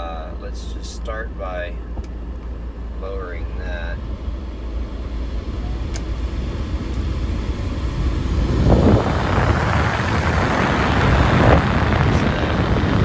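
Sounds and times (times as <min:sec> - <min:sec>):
diesel engine idling: 0:00.0 - 0:13.0
car blower rushing air: 0:01.8 - 0:13.0.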